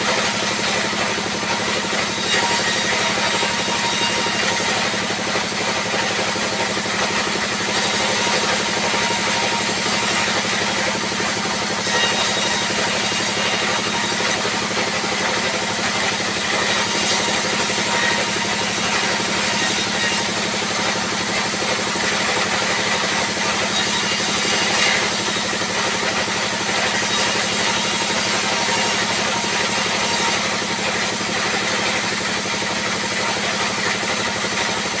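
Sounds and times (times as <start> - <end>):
band saw running: 0.0 - 35.0.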